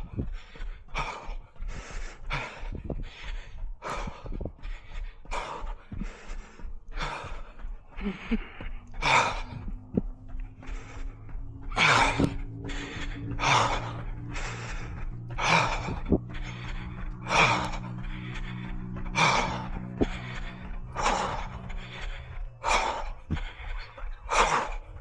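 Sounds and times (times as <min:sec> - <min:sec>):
runner breathing hard: 0:00.0 - 0:25.0.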